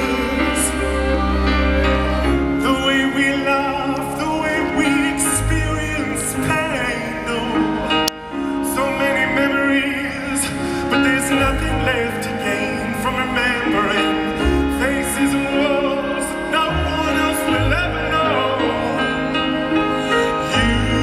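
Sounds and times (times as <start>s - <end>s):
live band accompaniment: 0.0s - 21.0s.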